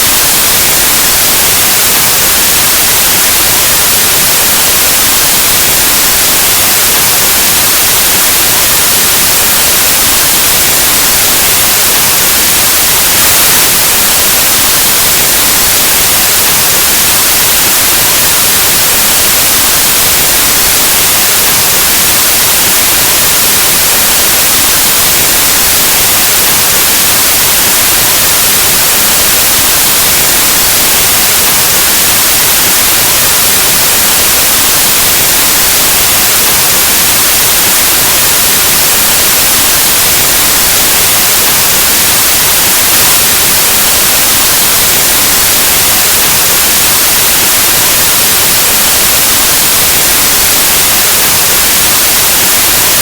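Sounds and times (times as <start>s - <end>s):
white noise static hiss: 0.0s - 53.0s.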